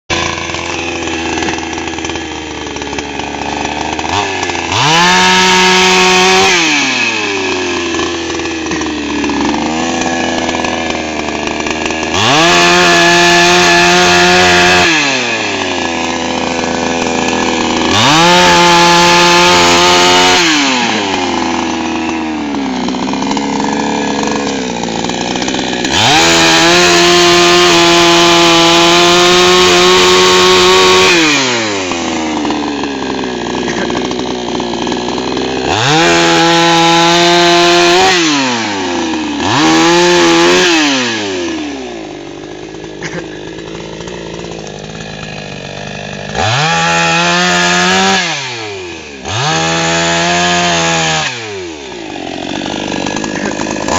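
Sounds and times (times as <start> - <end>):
chainsaw idling and revving: 0.0 - 53.9.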